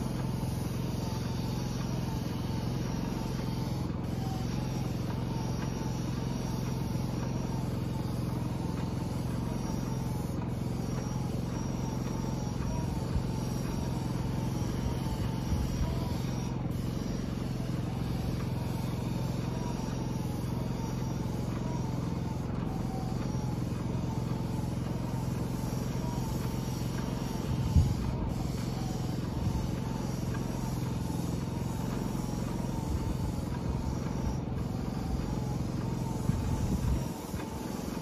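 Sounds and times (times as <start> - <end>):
generator engine running: 0.0 - 38.0.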